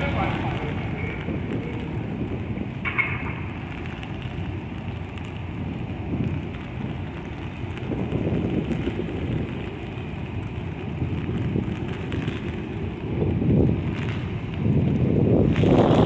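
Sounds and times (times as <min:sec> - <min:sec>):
gusty wind on microphone: 0:00.0 - 0:16.0
rain hiss: 0:00.0 - 0:16.0.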